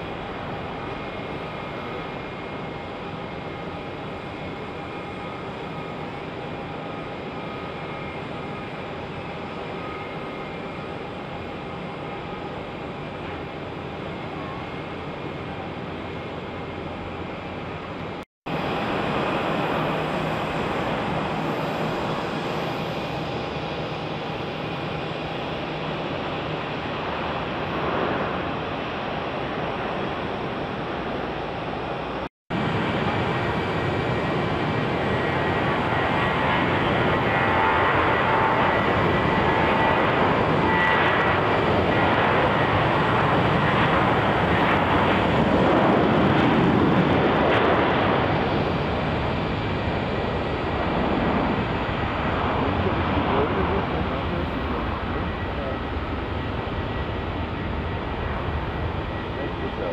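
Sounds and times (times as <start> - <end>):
jet engines rushing: 0.0 - 59.9.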